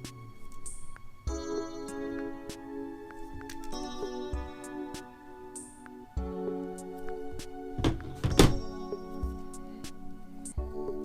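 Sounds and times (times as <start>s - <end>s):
background music of sustained tones: 0.0s - 11.0s.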